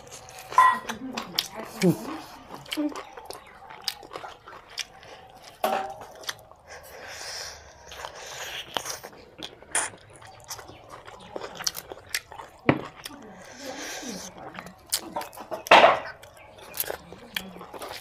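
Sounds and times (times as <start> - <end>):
wet chewing with smacks: 0.0 - 18.0.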